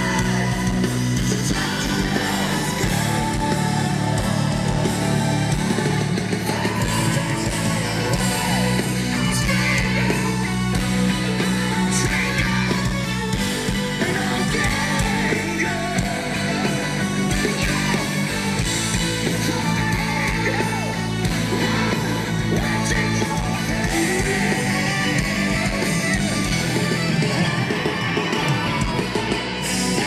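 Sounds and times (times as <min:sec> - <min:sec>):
live heavy metal band: 0:00.0 - 0:30.0.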